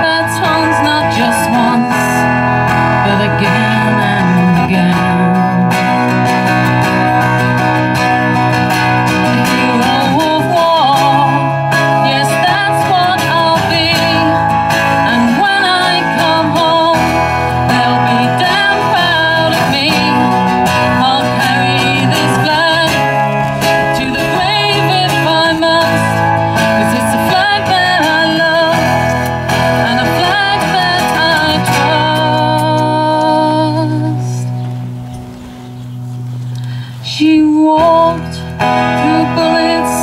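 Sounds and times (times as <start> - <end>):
person singing: 0.0 - 7.0, 8.7 - 34.6, 36.9 - 40.0
acoustic guitars strumming: 0.0 - 40.0.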